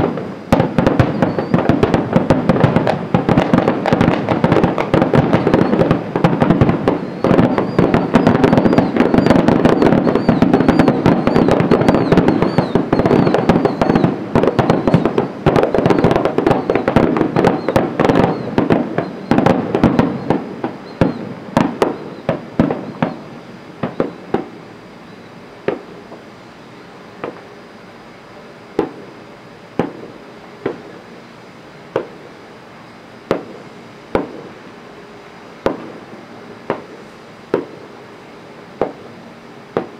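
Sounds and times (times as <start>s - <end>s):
fireworks bangs and crackling: 0.0s - 27.6s, 28.5s - 39.9s.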